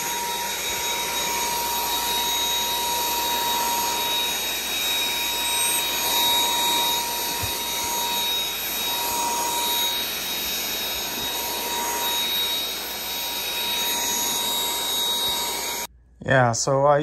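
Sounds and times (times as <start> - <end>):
stick vacuum running: 0.0 - 15.9.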